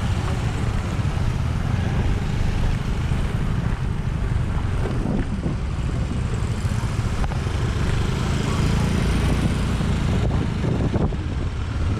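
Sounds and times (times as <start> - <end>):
wind rumble on microphone: 0.0 - 8.0, 8.6 - 11.9
road noise: 0.0 - 11.9.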